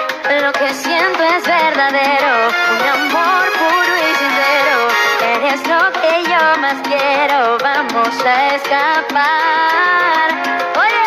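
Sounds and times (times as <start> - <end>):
latin pop band instrumental: 0.0 - 11.0.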